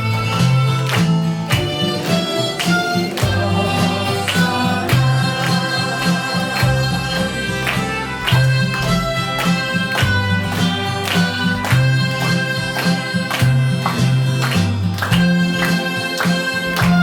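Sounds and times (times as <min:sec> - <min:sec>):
accompaniment with bass and beat: 0:00.0 - 0:15.6, 0:16.6 - 0:17.0
harmonica duet melody: 0:00.0 - 0:17.0.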